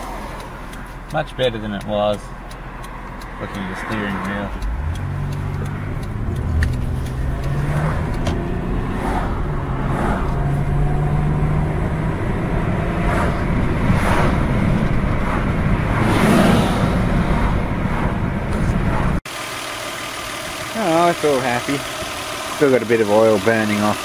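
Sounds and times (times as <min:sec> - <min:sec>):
car engine low note: 0:00.0 - 0:24.0
tyre road noise: 0:00.0 - 0:24.0.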